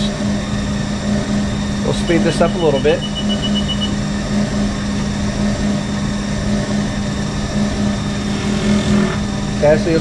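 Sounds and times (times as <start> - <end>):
milling machine humming: 0.0 - 10.0.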